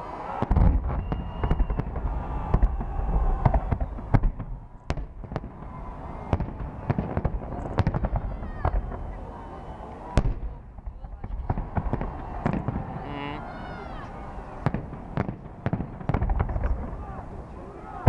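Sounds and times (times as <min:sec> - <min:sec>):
fireworks bangs and cracks: 0:00.2 - 0:18.0
fireworks boom: 0:00.4 - 0:17.2.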